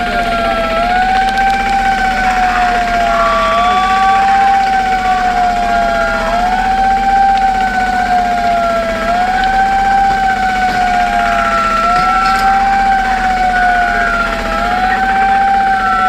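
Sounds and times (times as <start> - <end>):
low engine drone: 0.0 - 16.0
siren wailing: 0.0 - 16.0.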